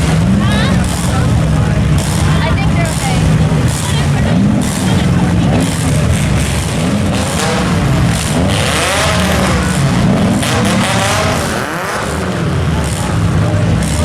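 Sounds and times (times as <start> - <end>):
car engines revving: 0.0 - 14.0
low engine rumble: 0.0 - 14.0.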